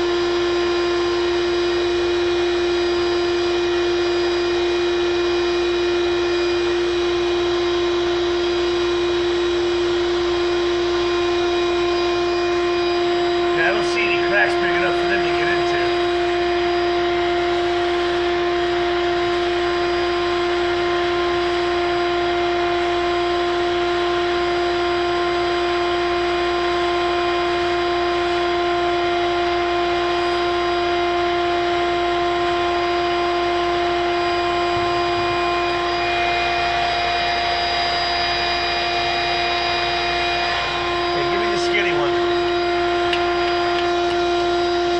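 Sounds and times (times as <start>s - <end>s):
machine whine: 0.0s - 44.9s.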